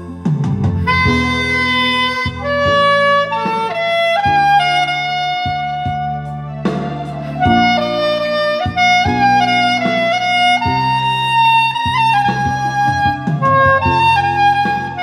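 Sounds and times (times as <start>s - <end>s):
backing track accompaniment: 0.0s - 15.0s
soprano saxophone melody: 0.8s - 15.0s.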